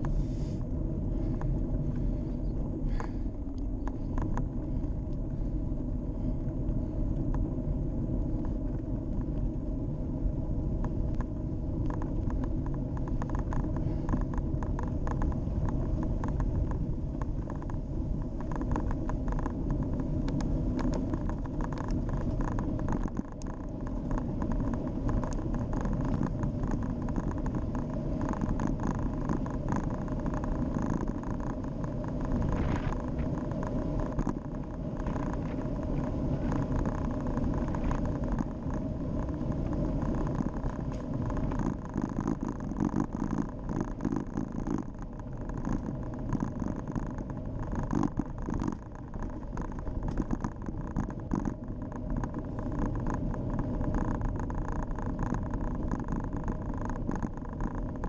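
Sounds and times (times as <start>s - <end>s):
bike tyre rumble on tarmac: 0.0s - 58.0s
wind noise on microphone: 0.0s - 58.0s
bike rattling and clicking: 1.2s - 58.0s.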